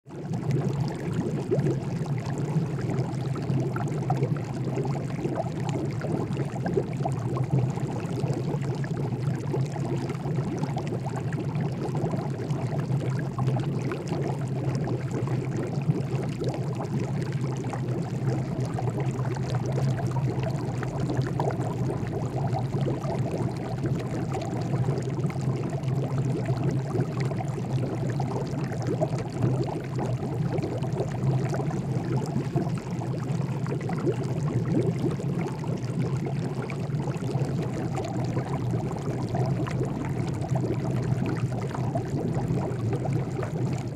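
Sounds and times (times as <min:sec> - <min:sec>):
water boiling in a pot: 0:00.0 - 0:43.9.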